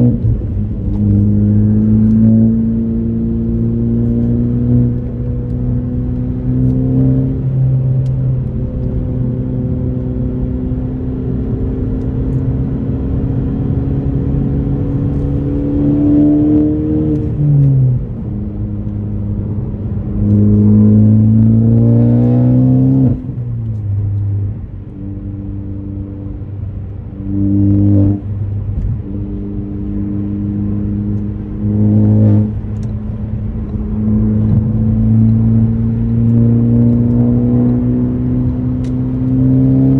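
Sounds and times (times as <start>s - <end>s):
engine revving: 0.0s - 18.2s, 18.8s - 26.3s, 27.0s - 39.9s
car engine accelerating: 0.0s - 39.9s.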